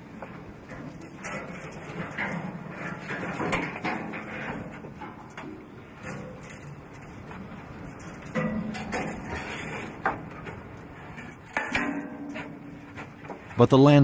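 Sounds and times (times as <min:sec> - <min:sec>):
footsteps on metal stairs: 0:00.0 - 0:13.6
ringing metal clangs: 0:00.5 - 0:13.6.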